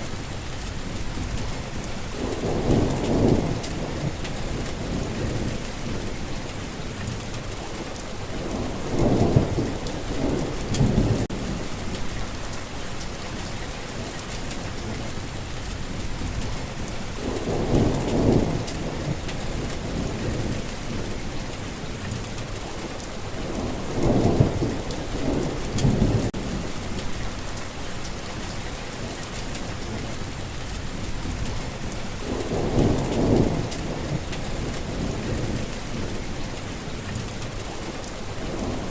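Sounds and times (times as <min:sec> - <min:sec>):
steady rain falling: 0:00.0 - 0:38.9
low rolls of thunder: 0:00.7 - 0:12.6, 0:15.7 - 0:27.7, 0:30.7 - 0:38.9.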